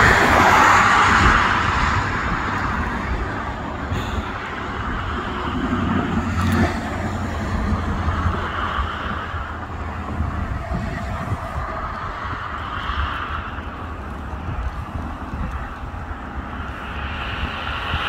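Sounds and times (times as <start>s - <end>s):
distant freight train rolling: 0.0s - 18.0s
road traffic rumble: 0.0s - 18.0s.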